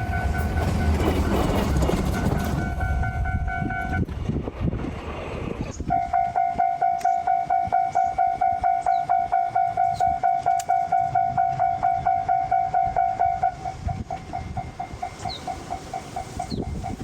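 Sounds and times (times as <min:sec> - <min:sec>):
level crossing alarm bell: 0:00.0 - 0:04.0, 0:05.9 - 0:17.0.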